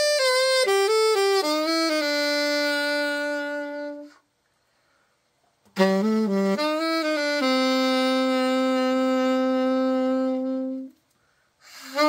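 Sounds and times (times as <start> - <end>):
alto saxophone playing: 0.0 - 4.3, 5.7 - 11.0, 11.6 - 12.0.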